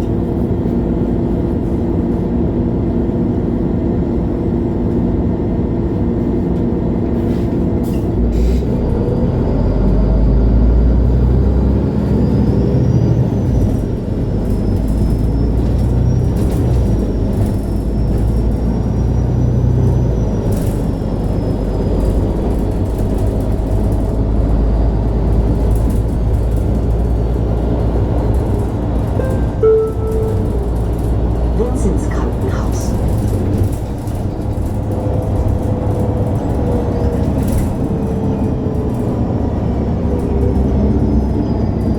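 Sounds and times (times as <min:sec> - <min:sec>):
bus diesel engine rumbling: 0:00.0 - 0:41.9.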